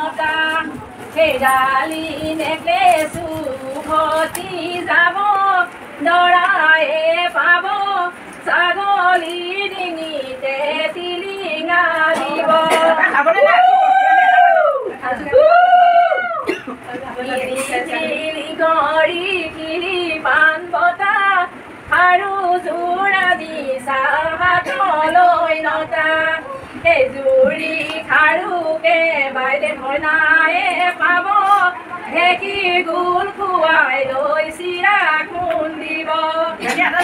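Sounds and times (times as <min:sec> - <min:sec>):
women singing: 0:00.0 - 0:37.0.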